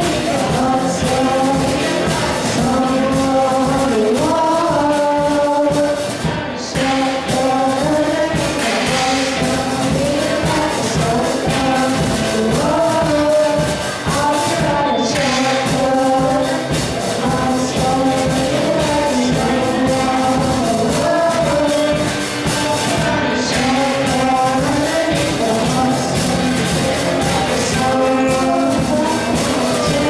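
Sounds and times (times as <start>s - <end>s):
band playing: 0.0s - 30.0s
person singing: 0.0s - 30.0s.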